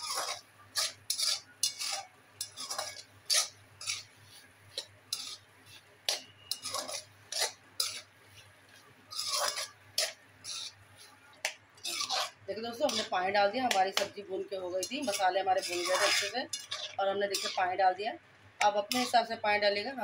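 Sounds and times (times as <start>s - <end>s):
metal spoon scraping metal pan: 0.0s - 11.2s, 11.8s - 17.8s, 18.6s - 19.4s.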